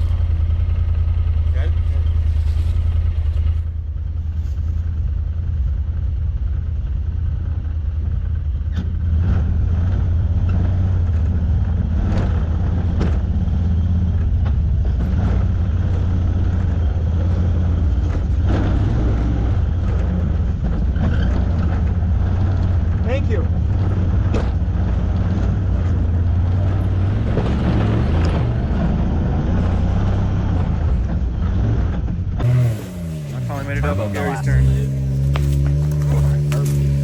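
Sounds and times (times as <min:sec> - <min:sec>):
utility vehicle engine running: 0:00.0 - 0:37.0.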